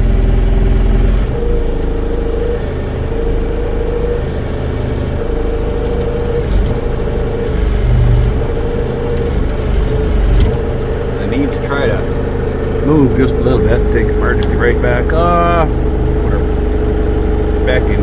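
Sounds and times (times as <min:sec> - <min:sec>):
tractor engine running: 0:00.0 - 0:18.0
whining tone: 0:00.0 - 0:18.0.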